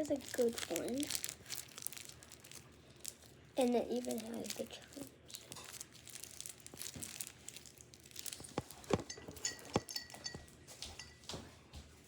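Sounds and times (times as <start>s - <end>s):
plastic crinkling: 0.0s - 10.4s.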